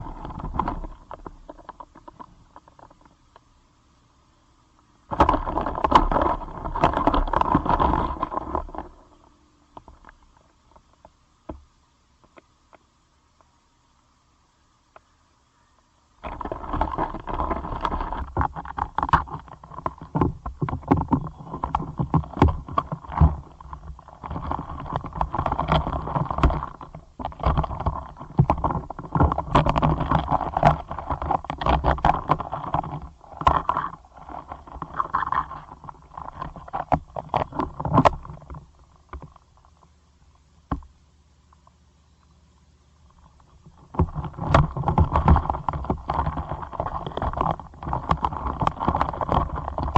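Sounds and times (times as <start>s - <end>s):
beetles scratching and clicking: 0.0s - 3.5s, 4.8s - 11.6s, 14.9s - 39.9s, 43.0s - 49.9s.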